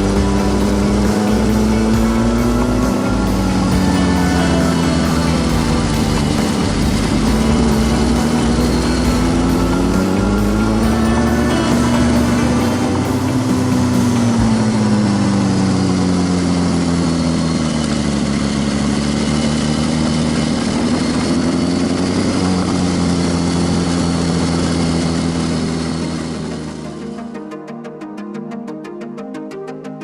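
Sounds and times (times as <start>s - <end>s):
motorcycle engine cruising: 0.0s - 27.3s.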